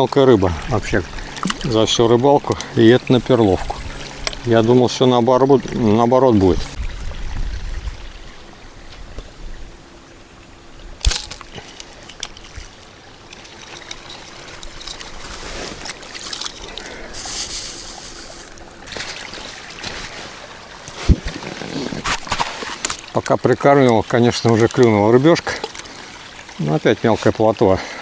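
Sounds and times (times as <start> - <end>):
water sloshing and trickling: 0.0 - 28.0.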